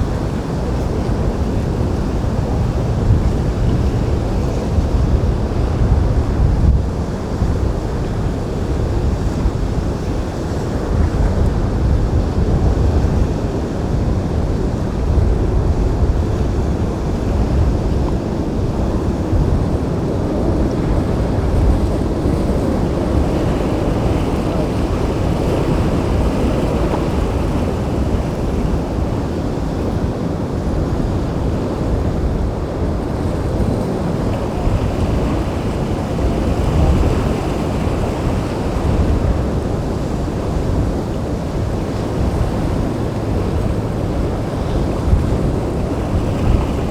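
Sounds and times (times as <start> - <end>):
waves and surf: 0.0 - 46.9
wind buffeting microphone: 0.0 - 46.9.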